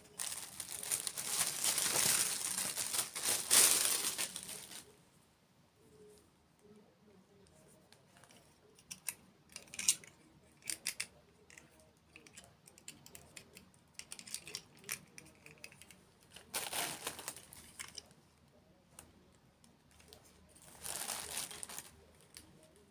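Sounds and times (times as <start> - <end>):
crinkly crackling: 0.0 - 5.0, 7.4 - 22.9.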